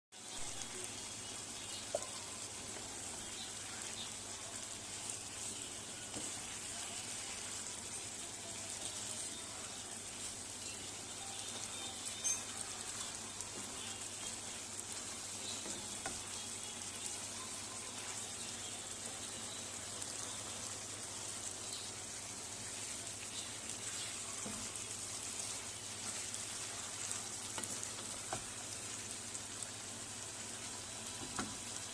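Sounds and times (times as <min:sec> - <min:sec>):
food sizzling in a pan: 0:00.1 - 0:31.9.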